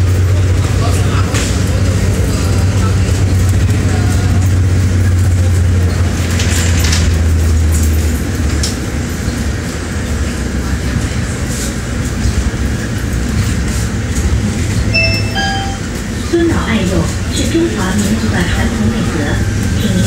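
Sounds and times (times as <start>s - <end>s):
bus engine drone: 0.0s - 20.0s
road rumble: 0.0s - 20.0s.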